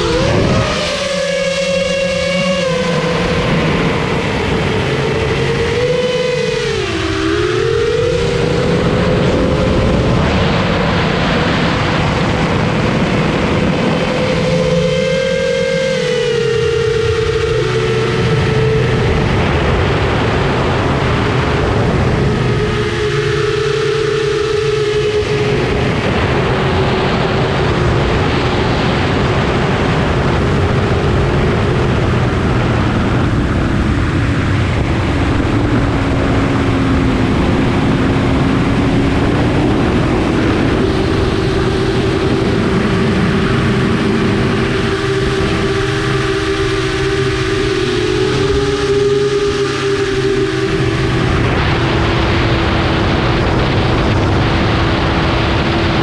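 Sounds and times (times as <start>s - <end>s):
drone motors whining: 0.0s - 54.8s.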